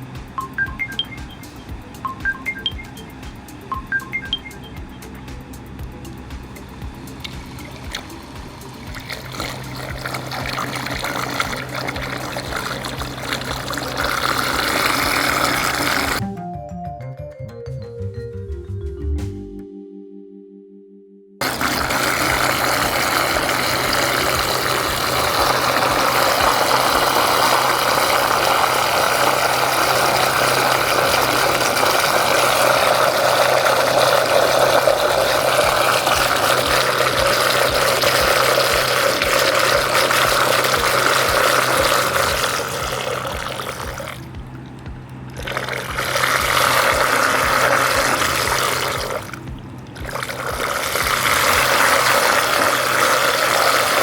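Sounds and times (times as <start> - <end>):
overhead stirrer humming: 0.0 - 16.2, 21.4 - 54.0.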